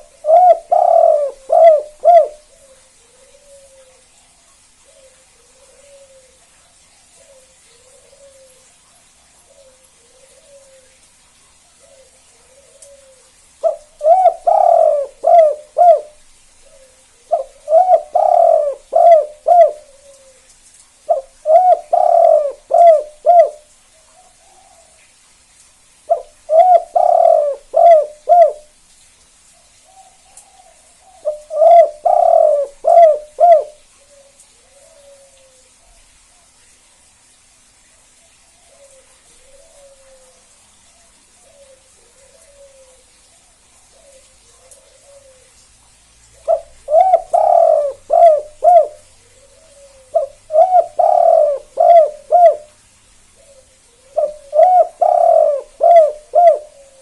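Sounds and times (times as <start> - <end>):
dove cooing: 0.0 - 8.8, 9.4 - 11.1, 11.8 - 25.1, 26.1 - 28.7, 29.6 - 36.0, 38.6 - 40.5, 41.4 - 43.2, 43.9 - 45.6, 46.4 - 52.8, 53.4 - 57.0.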